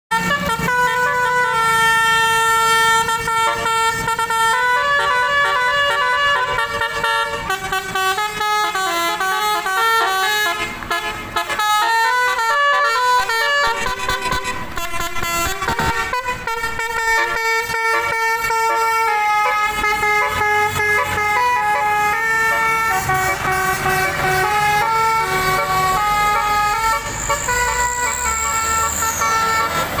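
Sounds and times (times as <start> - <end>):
bus engine running: 0.1 - 30.0
multi-tone bus horns playing tunes: 0.1 - 30.0.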